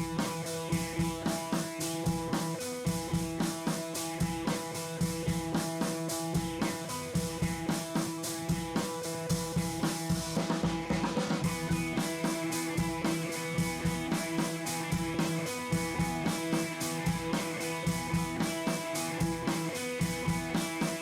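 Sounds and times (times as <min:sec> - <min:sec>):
rock music with drums and guitar: 0:00.0 - 0:21.0.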